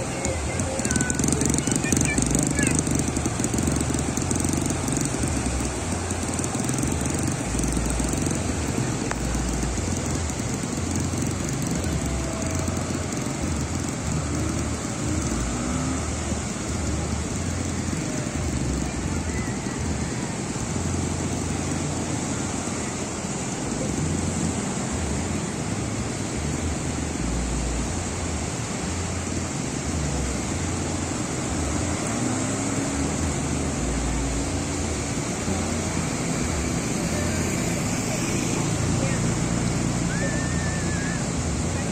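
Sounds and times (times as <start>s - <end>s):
surf washing up beach: 0.0s - 41.9s.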